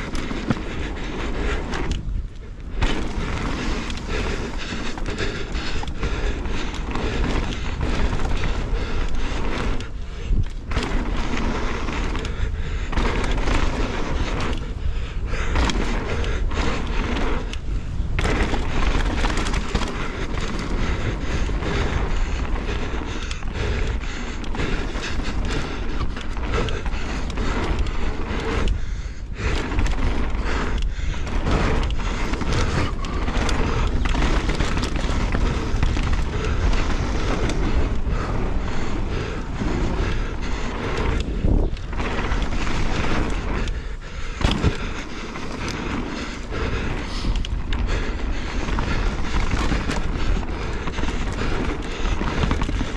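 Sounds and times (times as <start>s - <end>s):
bike and suspension rattling: 0.0s - 52.9s
bike tyres rumbling on gravel: 0.0s - 52.9s
wind on microphone: 0.0s - 52.9s
bike landing thuds: 2.7s - 52.9s.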